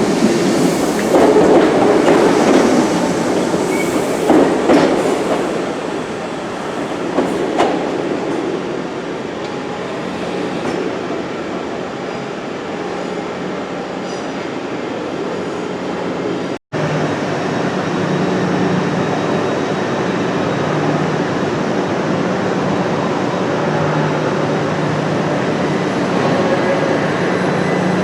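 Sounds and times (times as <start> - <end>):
train rumbling: 0.0 - 12.0, 16.1 - 28.0.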